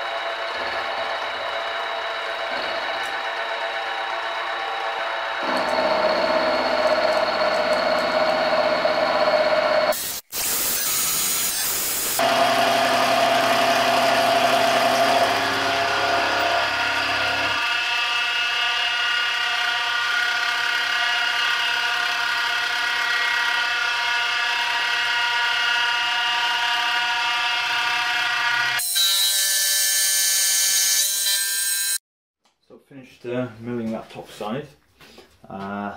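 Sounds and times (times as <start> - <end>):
milling machine cutting steel: 0.0 - 31.9.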